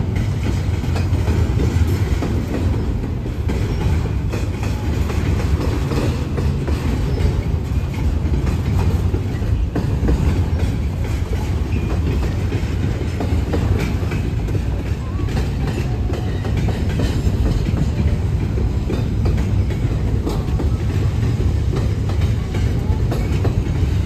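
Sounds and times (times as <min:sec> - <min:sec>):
train wheels rumbling on rail: 0:00.0 - 0:24.0
wheels clicking over rail joints: 0:00.0 - 0:24.0.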